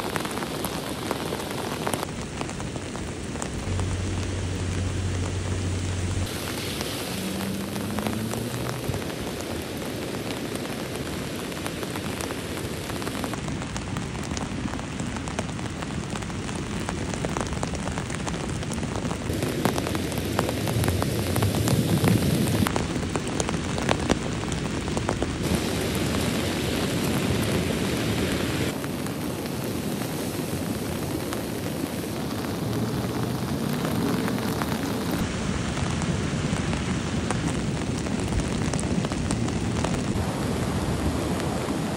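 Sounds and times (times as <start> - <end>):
floodwater rushing: 0.0 - 41.9
heavy rain falling: 0.0 - 41.9.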